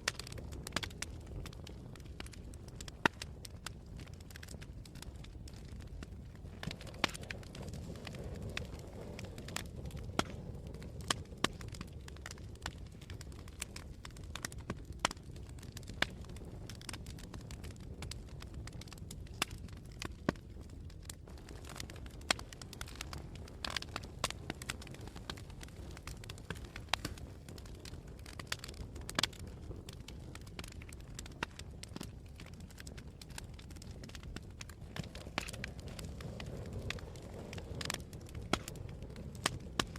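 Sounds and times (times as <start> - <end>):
campfire pops and crackles: 0.0 - 39.9.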